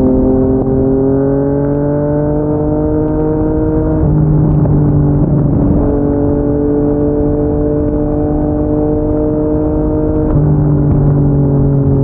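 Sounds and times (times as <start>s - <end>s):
motorcycle engine cruising: 0.0s - 12.0s
wind and road rumble: 0.0s - 12.0s.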